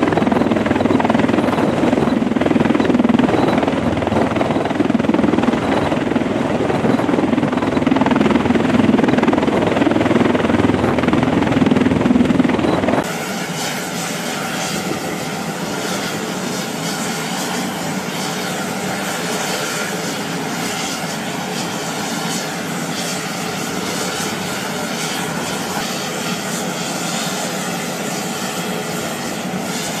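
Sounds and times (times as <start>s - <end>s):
aircraft rotor noise overhead: 0.0s - 30.0s.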